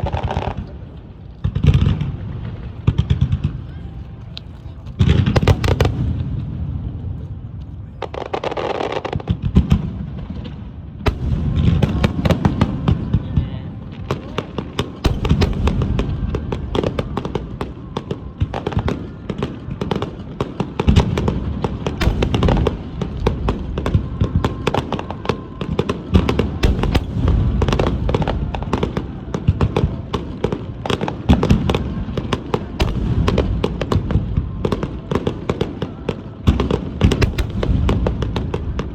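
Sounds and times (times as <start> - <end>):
deep fireworks booms: 0.0 - 4.0, 4.7 - 38.9
sharp fireworks cracks: 0.0 - 38.9.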